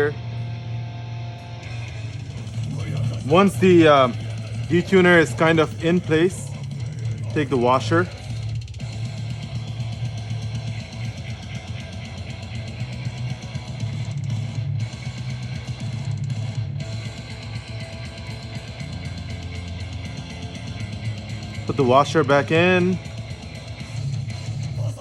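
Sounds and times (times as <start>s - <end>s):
rock music with guitar and drums: 0.0s - 25.0s.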